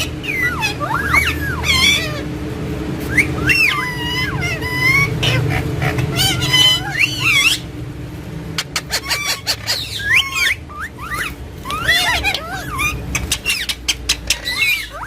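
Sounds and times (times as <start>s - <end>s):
parrot squawks and whistles: 0.0s - 2.2s, 3.0s - 7.6s, 8.7s - 15.0s.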